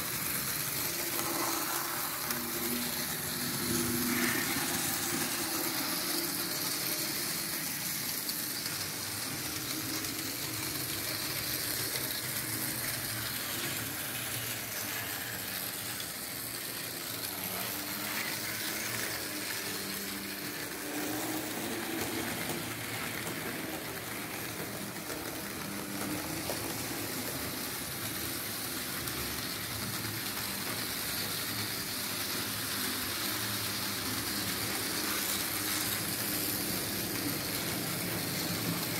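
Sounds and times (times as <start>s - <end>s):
constant hiss: 0.0s - 38.9s
model train motor and wheels rumbling: 0.0s - 38.9s.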